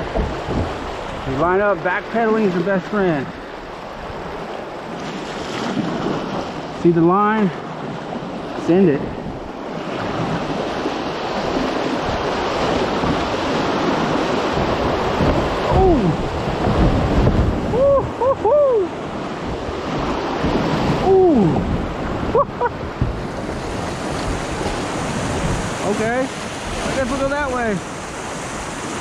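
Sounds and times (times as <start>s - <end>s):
rushing whitewater: 0.0s - 29.0s.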